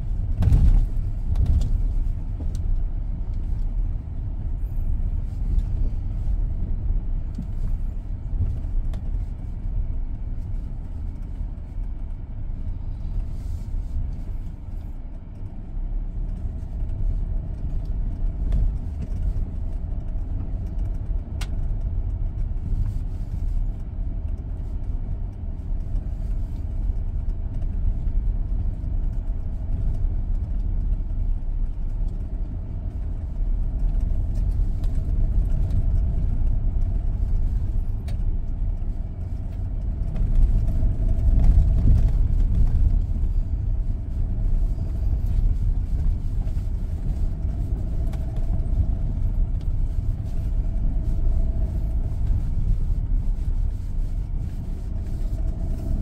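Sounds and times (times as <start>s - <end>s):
pickup truck engine rumble: 0.0s - 56.0s.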